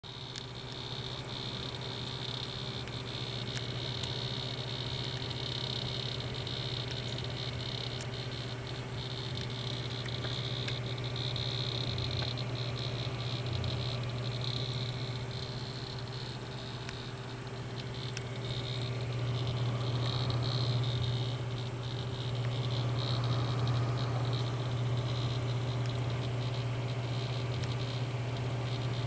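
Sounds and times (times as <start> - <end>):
computer low hum: 0.0 - 29.0
faint crackling ticks: 0.1 - 29.0
high buzzing whine: 0.1 - 29.0.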